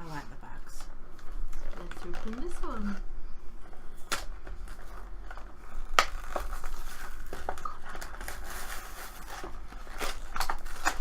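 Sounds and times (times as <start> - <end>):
packaging crinkling: 0.8 - 11.0.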